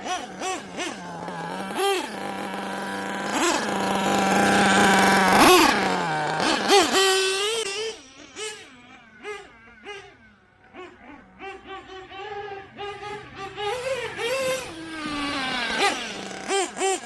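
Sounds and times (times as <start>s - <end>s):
rc truck nitro engine revving: 0.0s - 17.0s.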